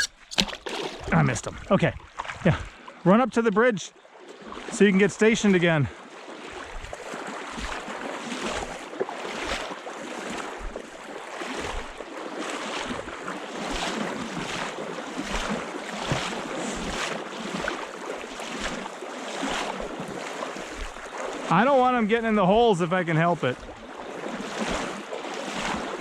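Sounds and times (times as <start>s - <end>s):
footsteps wading through water: 0.0s - 26.0s
moving water: 0.0s - 26.0s.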